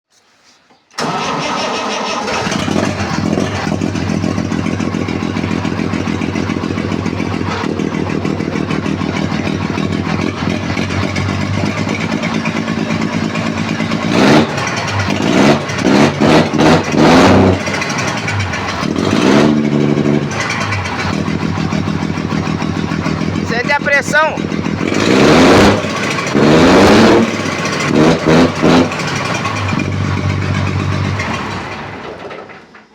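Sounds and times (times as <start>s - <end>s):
tractor diesel engine revving: 1.0s - 32.6s.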